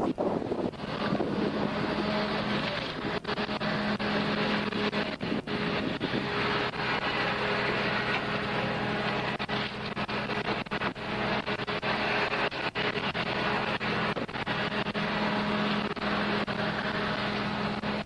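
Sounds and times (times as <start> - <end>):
vehicle engine humming: 0.0 - 18.0
wind noise on microphone: 0.0 - 18.0.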